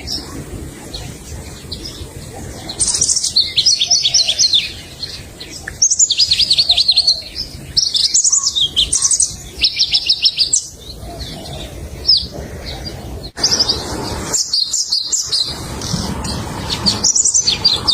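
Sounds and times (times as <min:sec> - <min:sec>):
warbler singing: 0:00.0 - 0:17.9.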